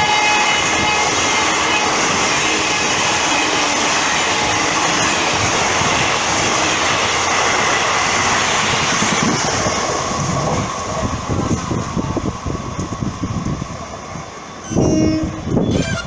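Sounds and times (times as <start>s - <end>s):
train passing at speed: 0.0s - 15.7s.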